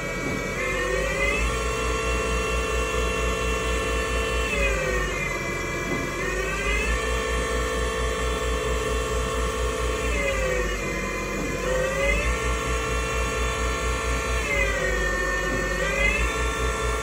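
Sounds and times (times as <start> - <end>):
lathe machine whine: 0.0 - 17.0.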